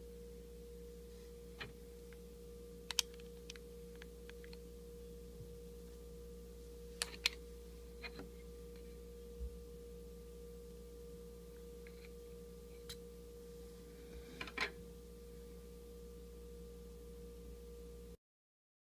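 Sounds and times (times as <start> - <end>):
faint electrical hum: 0.0 - 18.2.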